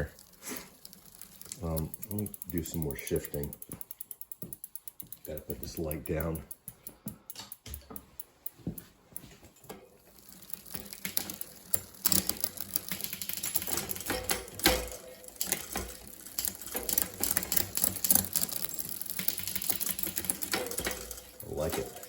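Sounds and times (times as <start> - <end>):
bike chain clicking through gears: 0.0 - 22.0.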